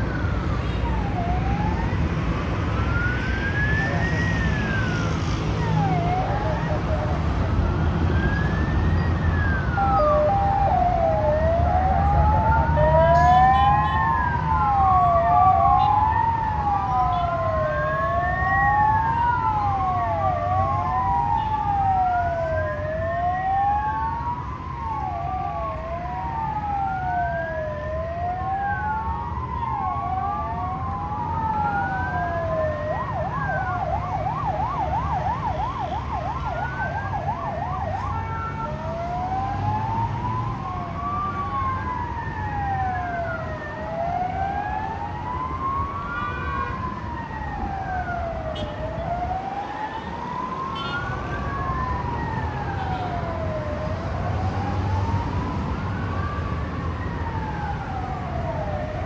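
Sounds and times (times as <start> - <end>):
emergency vehicle sirens wailing: 0.0 - 59.0
street traffic rumble: 0.0 - 59.0.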